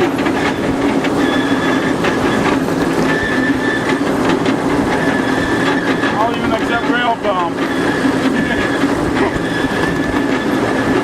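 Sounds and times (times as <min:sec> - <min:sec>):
high wheel squeal: 0:00.0 - 0:11.0
train wheels running on rails: 0:00.0 - 0:11.0.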